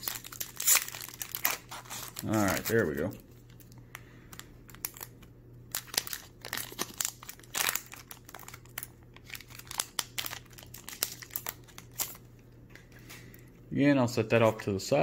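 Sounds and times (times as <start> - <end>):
plastic wrapper crinkling: 0.0 - 13.4.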